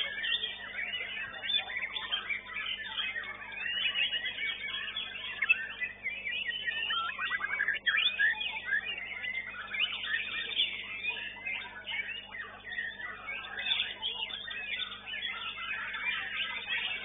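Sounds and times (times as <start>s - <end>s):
birds whistling and trilling: 0.0s - 17.0s.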